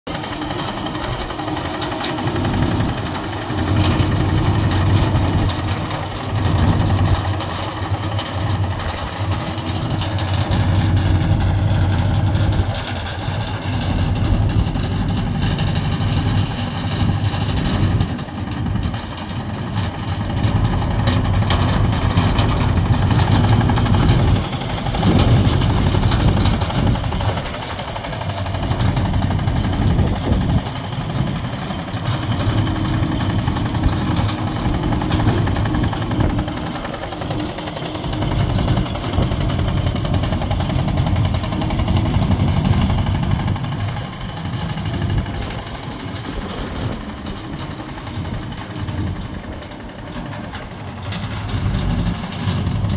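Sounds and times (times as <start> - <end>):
dumper engine clattering: 0.1 - 52.9.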